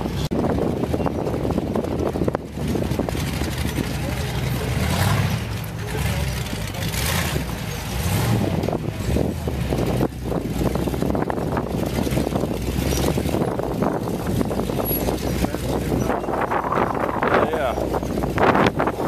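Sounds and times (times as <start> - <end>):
buggy engine at low revs: 0.0 - 19.0.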